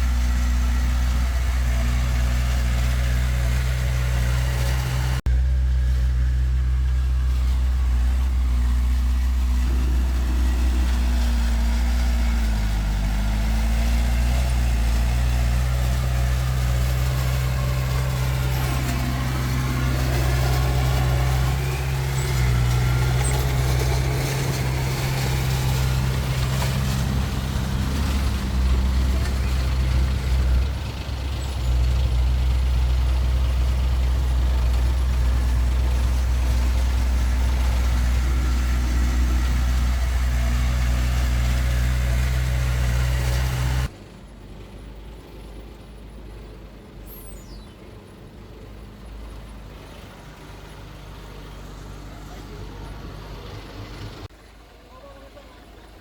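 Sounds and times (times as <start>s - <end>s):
diesel earthmoving machinery engines: 0.0s - 56.0s.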